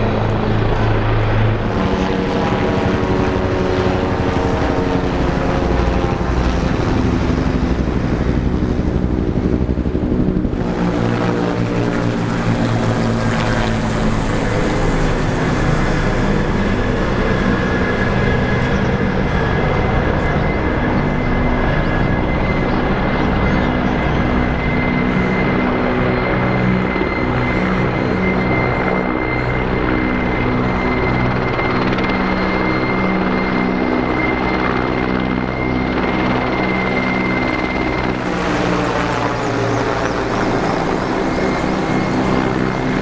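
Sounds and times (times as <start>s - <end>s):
helicopters flying past: 0.0s - 43.0s.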